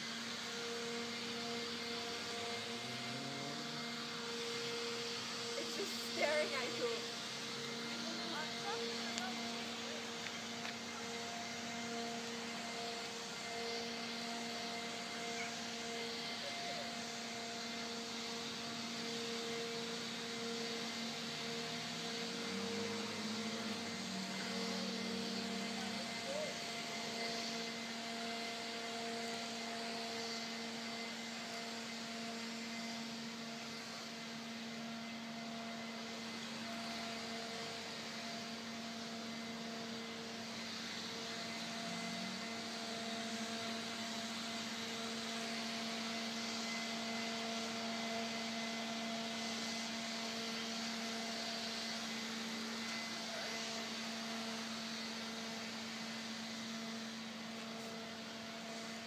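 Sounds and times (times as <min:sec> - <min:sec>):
steady machine hum: 0:00.0 - 0:54.8.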